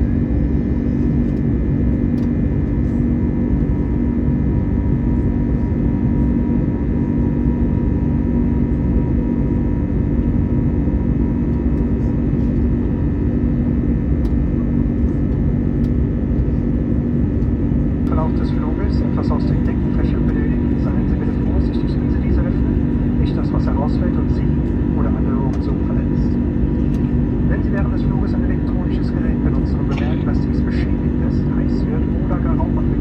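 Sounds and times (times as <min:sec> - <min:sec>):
aircraft engine drone: 0:00.0 - 0:33.0
constant low hum: 0:00.0 - 0:33.0.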